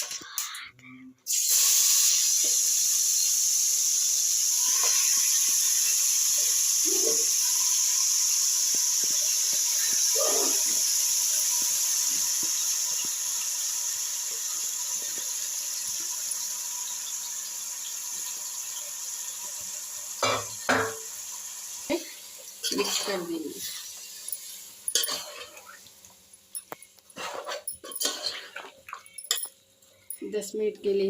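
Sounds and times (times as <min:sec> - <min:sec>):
chicken sizzling in hot oil: 0:01.3 - 0:28.7.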